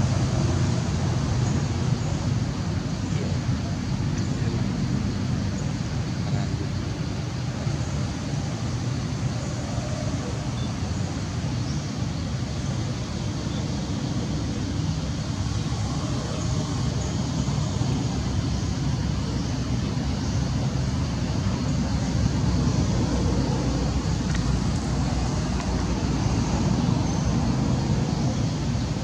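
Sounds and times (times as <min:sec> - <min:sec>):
low rumbling background noise: 0:00.0 - 0:29.0.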